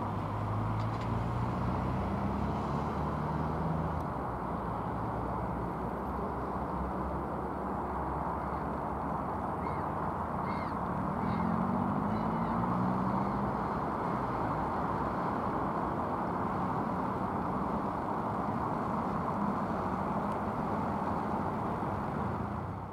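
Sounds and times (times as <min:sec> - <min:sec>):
distant traffic rumble: 0:00.0 - 0:22.9
low engine hum: 0:00.0 - 0:22.9.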